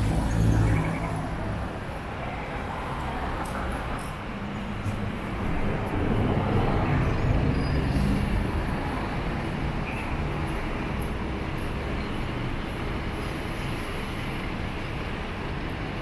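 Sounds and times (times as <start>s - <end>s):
bus passing close by: 0.0s - 16.0s
road traffic noise: 0.0s - 16.0s.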